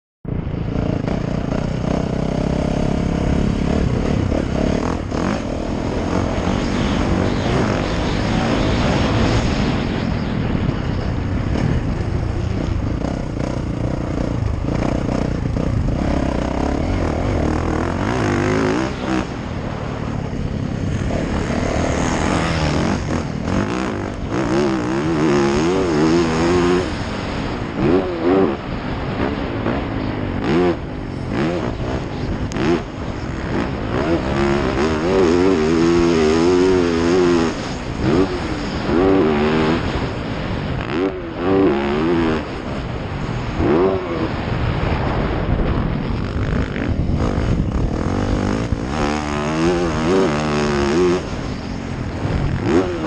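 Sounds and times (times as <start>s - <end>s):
wind noise: 0.2s - 53.0s
dirt bike engine revving: 0.3s - 53.0s.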